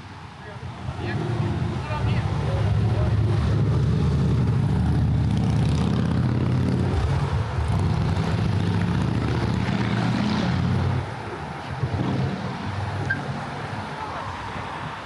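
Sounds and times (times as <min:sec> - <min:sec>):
street traffic noise: 0:00.0 - 0:15.0
large vehicle engine humming: 0:00.4 - 0:15.0.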